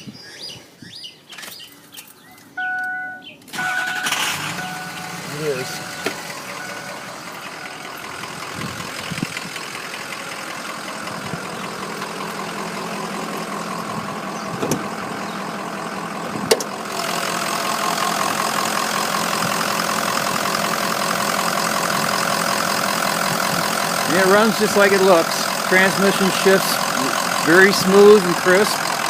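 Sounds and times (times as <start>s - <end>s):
diesel engine idling: 2.2s - 29.0s.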